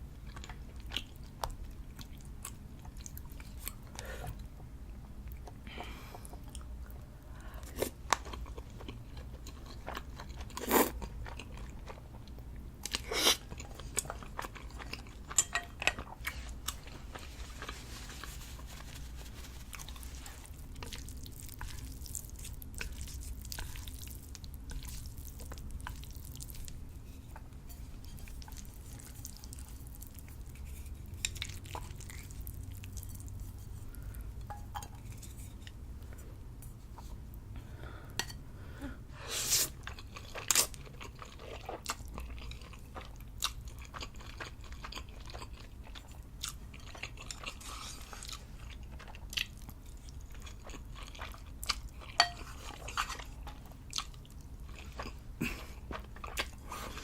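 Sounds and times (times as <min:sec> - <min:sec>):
person chewing food: 0:00.1 - 0:36.2, 0:39.6 - 0:57.0.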